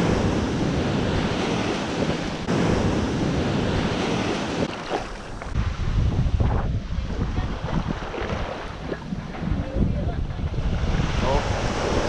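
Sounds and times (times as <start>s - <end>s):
surf washing on sandy beach: 0.0s - 12.0s
wind buffeting microphone: 0.0s - 12.0s.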